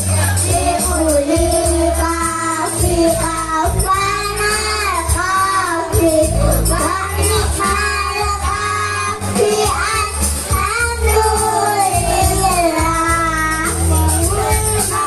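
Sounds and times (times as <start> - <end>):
child singing: 0.0 - 15.0
musical backing with bass line: 0.0 - 15.0.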